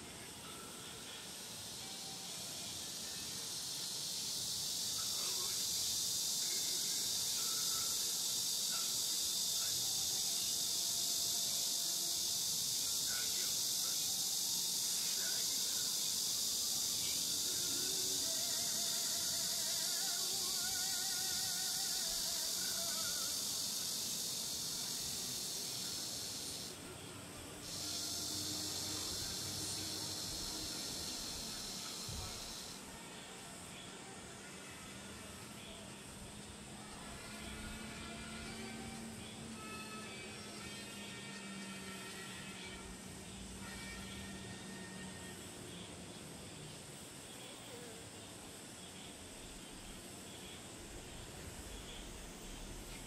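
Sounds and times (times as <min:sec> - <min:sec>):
insects chorus: 0:00.0 - 0:53.0.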